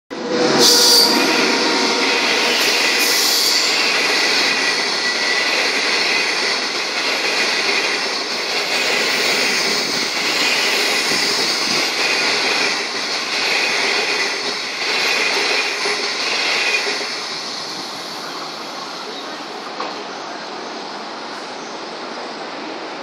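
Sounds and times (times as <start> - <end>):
train wheels rushing on rail: 0.1 - 23.0.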